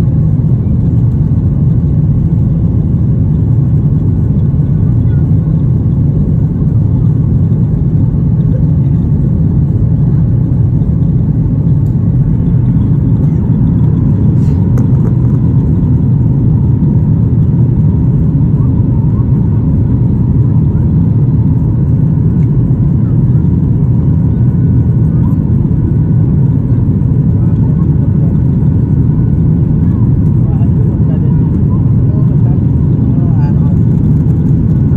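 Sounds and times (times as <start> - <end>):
jet engine drone: 0.0 - 34.9.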